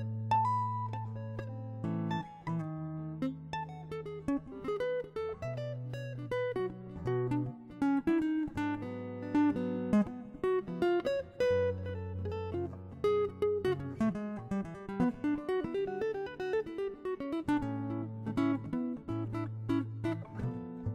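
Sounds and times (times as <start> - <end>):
solo guitar piece: 0.0 - 20.9.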